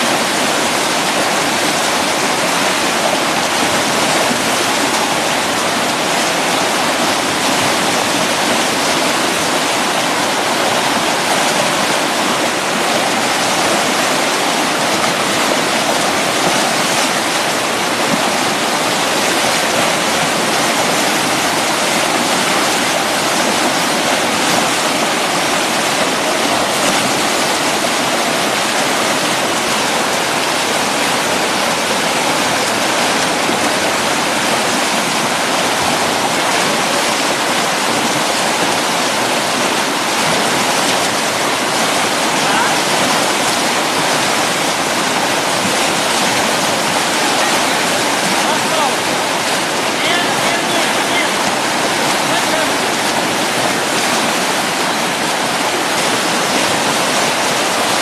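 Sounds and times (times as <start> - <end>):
whitewater rushing: 0.0 - 58.0.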